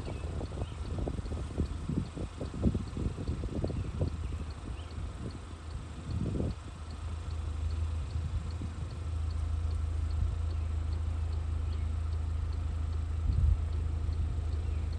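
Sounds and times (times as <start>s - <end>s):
faint high-pitched ticking: 0.0s - 14.9s
vehicle engine idling: 0.0s - 14.9s.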